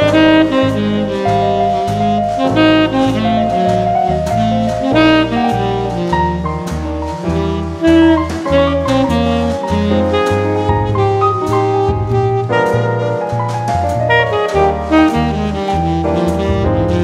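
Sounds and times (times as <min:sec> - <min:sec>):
bass line: 0:00.0 - 0:17.0
drums keeping a beat: 0:00.0 - 0:17.0
saxophone melody: 0:00.0 - 0:17.0.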